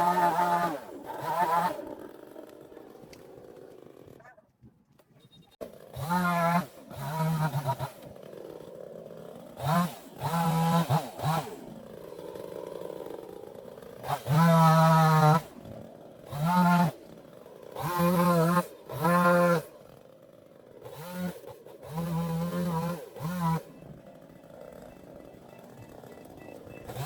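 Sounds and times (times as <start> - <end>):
chainsaw revving: 0.0 - 4.3, 5.6 - 27.0.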